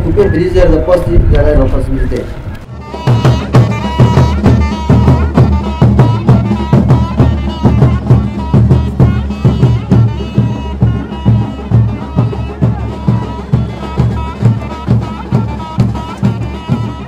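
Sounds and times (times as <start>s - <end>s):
held melodic tone: 2.6s - 17.0s
drums beating fast rhythm: 2.7s - 17.0s.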